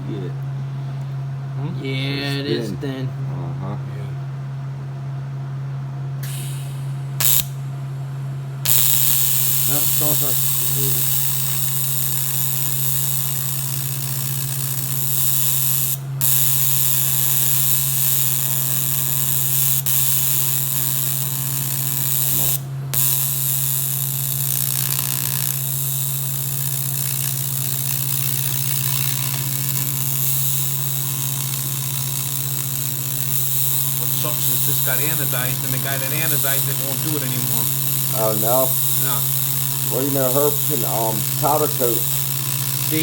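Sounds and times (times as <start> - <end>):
steady low hum: 0.0 - 43.0
welding arc sizzling on metal: 6.2 - 7.6, 8.7 - 43.0.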